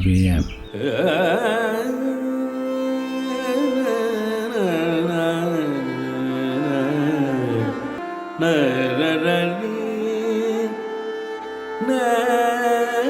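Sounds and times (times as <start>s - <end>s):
indian classical music: 0.8s - 13.0s.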